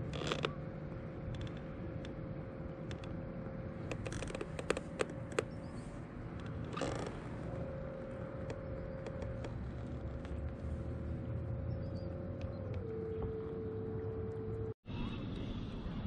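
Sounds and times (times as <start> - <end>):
trolling motor whining: 0.0 - 14.8.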